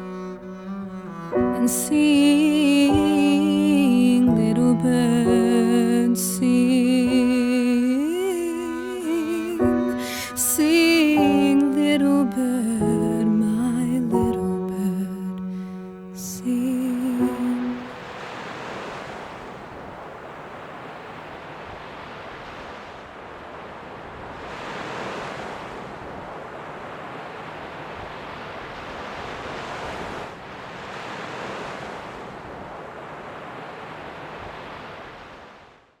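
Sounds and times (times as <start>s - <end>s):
waves washing on shore: 1.2s - 14.2s, 16.4s - 35.9s.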